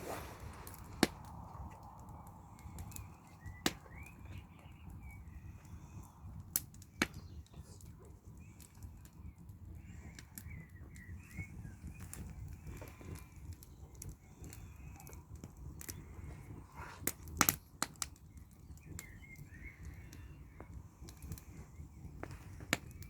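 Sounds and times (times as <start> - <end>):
campfire crackling and popping: 0.0 - 23.0
small birds chirping: 0.1 - 23.0.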